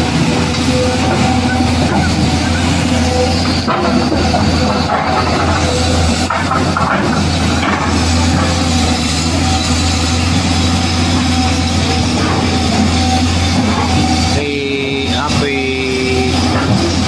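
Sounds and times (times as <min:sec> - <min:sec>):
heavy engine idling: 0:00.0 - 0:17.0.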